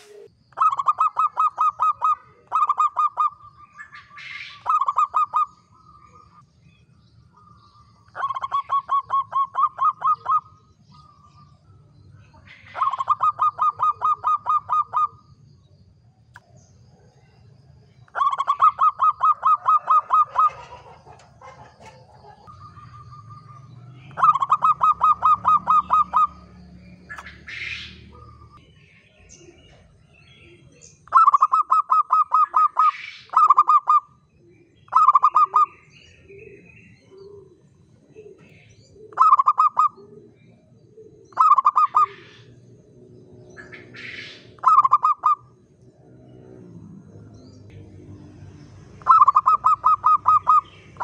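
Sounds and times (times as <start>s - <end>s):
dove cooing: 0.0s - 6.4s, 8.1s - 11.8s, 12.4s - 15.3s, 18.1s - 28.6s, 29.4s - 45.6s, 49.0s - 51.0s.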